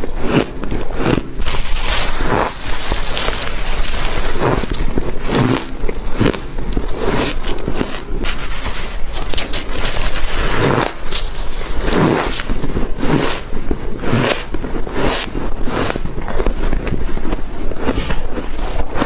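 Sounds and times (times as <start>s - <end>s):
chewing crunchy frost: 0.0s - 19.0s.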